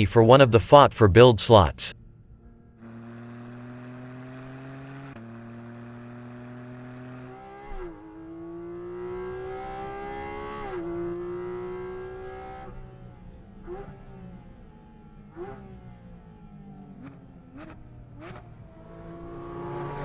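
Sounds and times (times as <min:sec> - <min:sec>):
car engine accelerating: 0:01.9 - 0:20.0.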